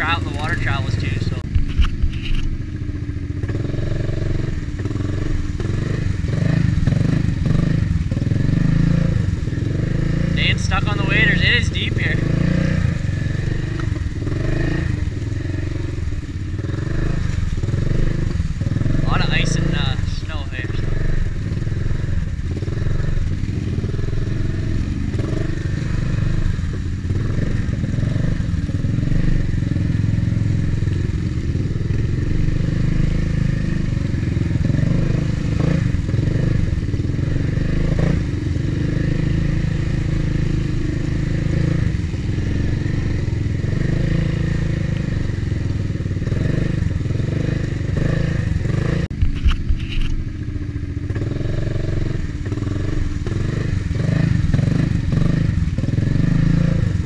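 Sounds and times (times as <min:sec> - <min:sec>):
atv engine running under load: 0:00.0 - 0:57.0.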